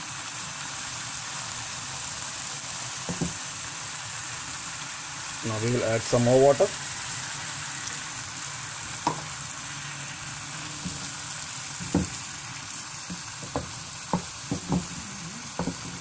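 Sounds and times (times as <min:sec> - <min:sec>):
curry bubbling and sizzling in pan: 0:00.0 - 0:16.0.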